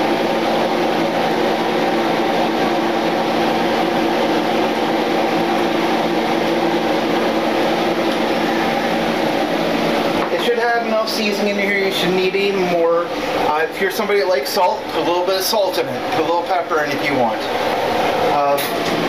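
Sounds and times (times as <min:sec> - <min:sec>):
fan motor whirring hum: 0:00.0 - 0:19.0.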